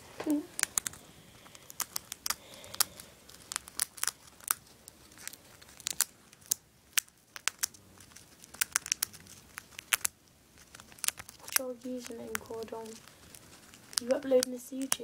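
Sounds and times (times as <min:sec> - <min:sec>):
hamster gnawing nut shell: 0:00.5 - 0:15.0.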